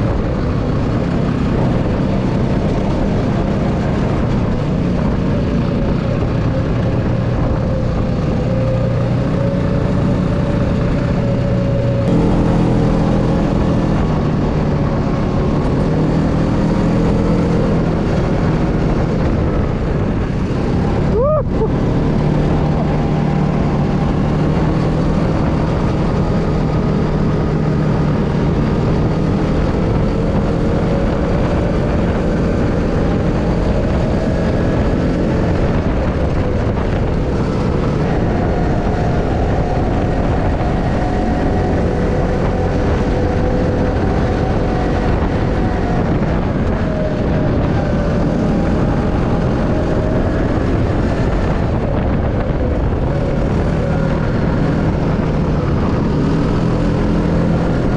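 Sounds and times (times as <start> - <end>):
engine running: 0.0 - 57.9
rushing noise: 2.9 - 57.9.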